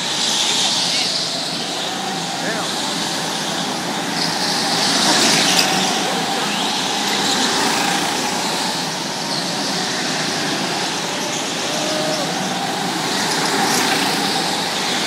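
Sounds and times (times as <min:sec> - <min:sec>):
go-kart engines buzzing: 0:00.0 - 0:15.0.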